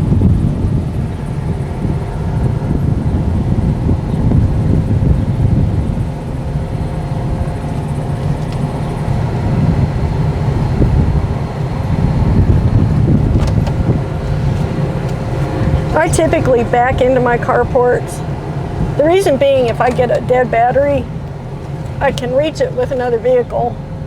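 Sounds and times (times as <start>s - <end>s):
pickup truck engine running: 0.0s - 24.0s.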